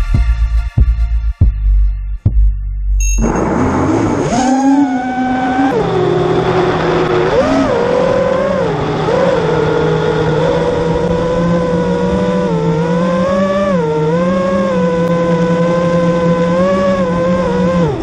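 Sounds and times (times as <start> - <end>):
quadcopter motors whining: 3.2 - 18.0.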